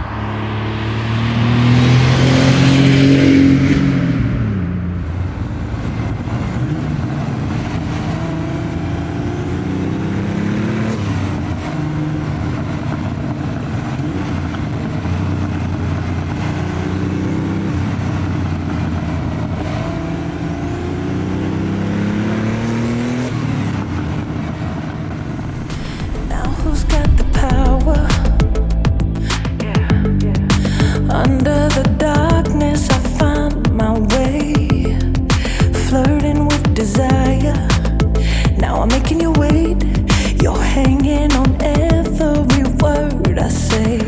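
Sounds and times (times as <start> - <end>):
car engine revving under acceleration: 0.0 - 44.0.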